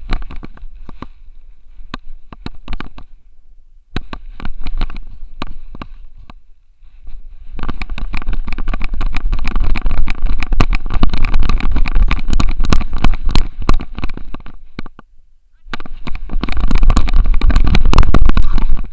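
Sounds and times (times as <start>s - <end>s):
camera knocking and rattling: 0.0s - 3.2s, 3.9s - 6.4s, 7.4s - 15.1s, 15.7s - 18.9s.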